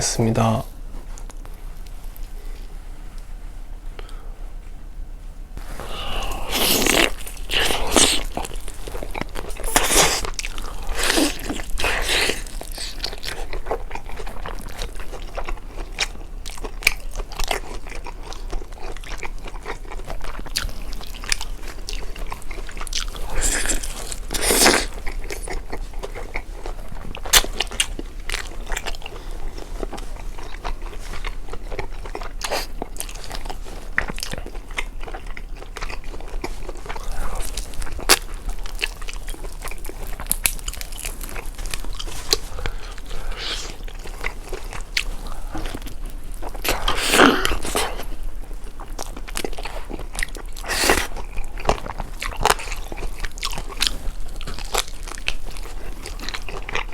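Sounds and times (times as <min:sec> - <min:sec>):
crunchy bites and wet chewing: 0:05.6 - 0:56.9.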